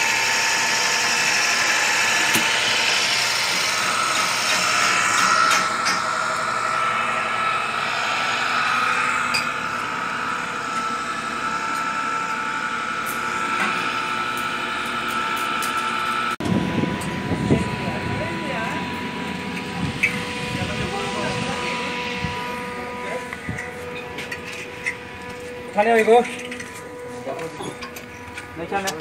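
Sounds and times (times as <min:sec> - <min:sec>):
pipe threading machine whine: 0:00.0 - 0:29.0.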